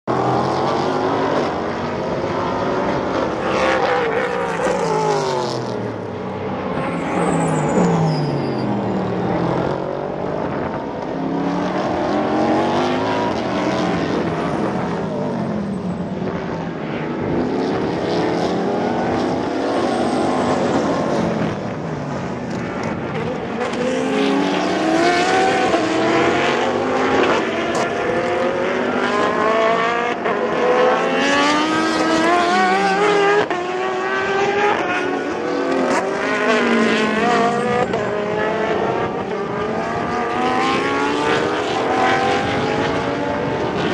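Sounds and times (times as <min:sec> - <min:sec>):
racing car engines passing: 0:00.1 - 0:43.9.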